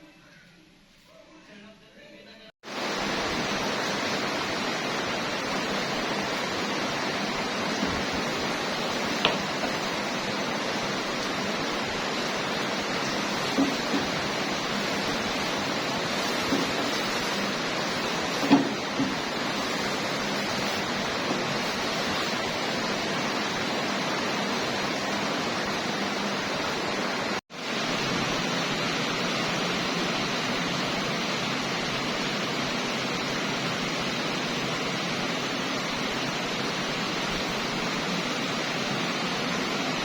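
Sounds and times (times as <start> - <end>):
rushing water: 2.6 - 40.0.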